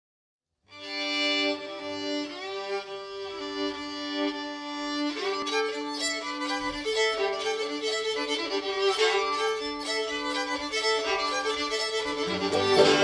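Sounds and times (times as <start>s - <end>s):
violin background music: 0.8s - 13.0s.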